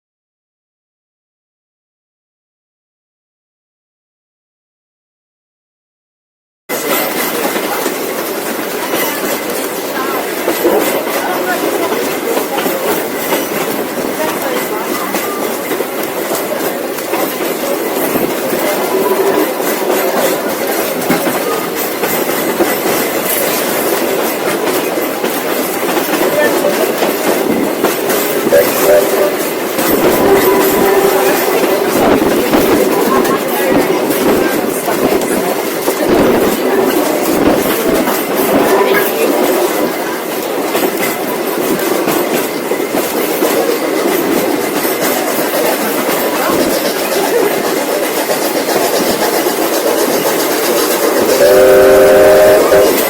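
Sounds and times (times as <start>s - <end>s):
train carriage rumbling and rattling: 6.7s - 53.0s
wheels clicking over rail joints: 6.7s - 53.0s.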